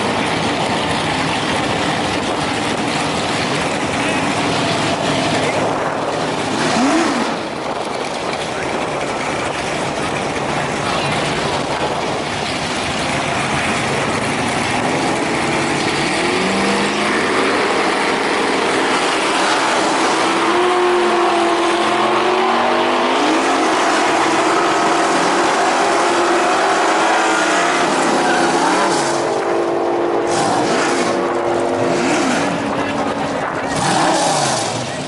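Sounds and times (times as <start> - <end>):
drag racing engines revving: 0.0 - 35.0.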